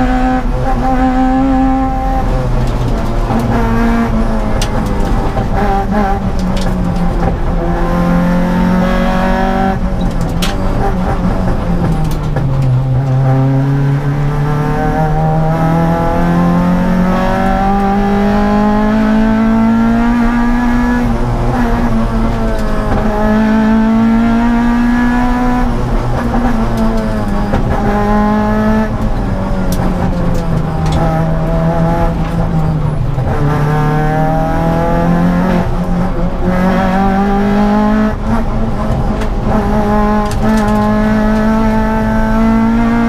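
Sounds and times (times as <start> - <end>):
car engine revving hard: 0.0 - 43.0.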